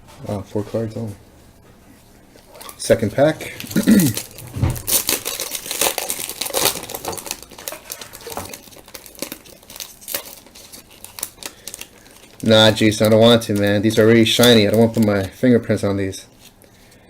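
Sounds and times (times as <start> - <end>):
foil wrapper tearing and crinkling: 2.4 - 17.0.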